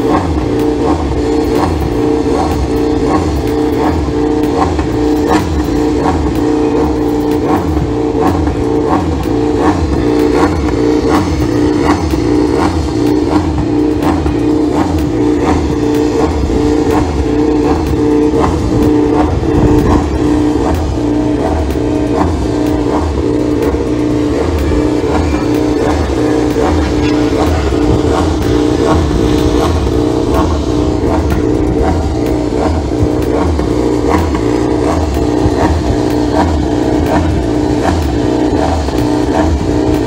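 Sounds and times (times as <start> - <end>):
steady beat: 0.0 - 40.0
sustained droning tone: 0.0 - 40.0.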